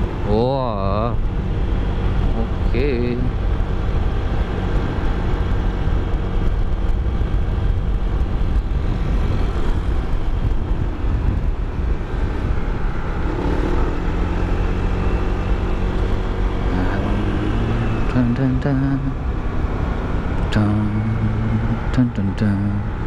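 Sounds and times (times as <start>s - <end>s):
motorcycle engine running: 0.0s - 23.0s
wind rumble on microphone: 0.0s - 23.0s.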